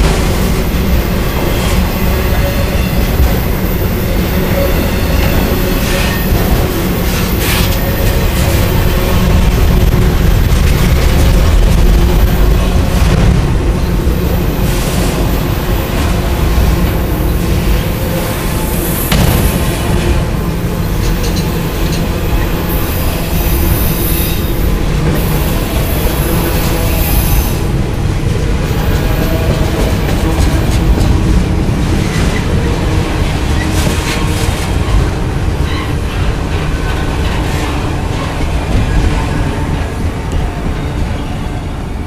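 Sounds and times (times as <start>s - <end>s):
freight cars rumbling over rails: 0.0s - 42.0s.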